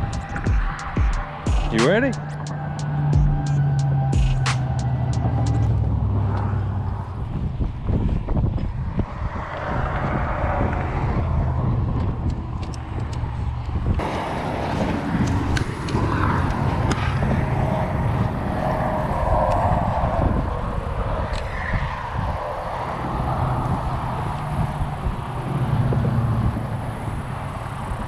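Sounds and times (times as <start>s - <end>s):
wind on microphone: 0.0s - 2.6s, 4.2s - 28.0s
highway traffic rumble: 0.0s - 28.0s.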